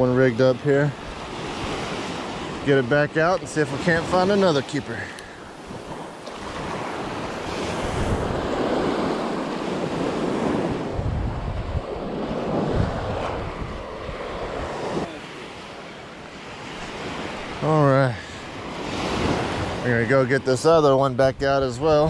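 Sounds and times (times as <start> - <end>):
surf breaking on beach: 0.0 - 21.2
wind buffeting microphone: 0.7 - 22.0.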